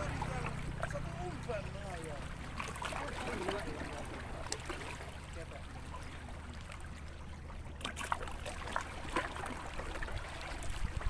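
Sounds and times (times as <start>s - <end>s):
water lapping at shoreline: 0.0s - 11.0s.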